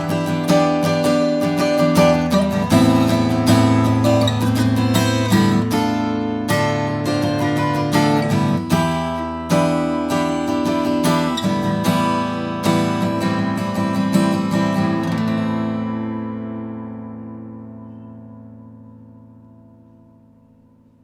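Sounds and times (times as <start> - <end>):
steel-string acoustic guitar: 0.0 - 21.0.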